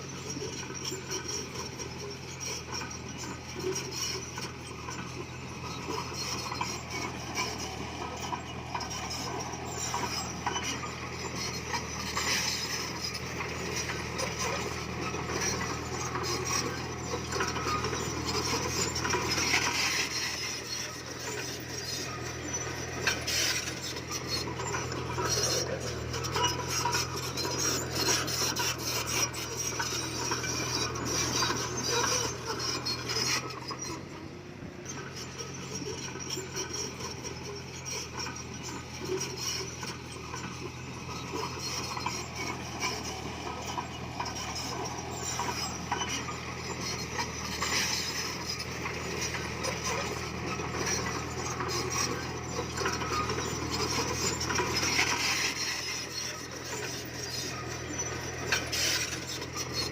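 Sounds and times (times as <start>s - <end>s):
blade and tracks scraping stone: 0.0s - 59.9s
diesel engine droning: 0.0s - 59.9s.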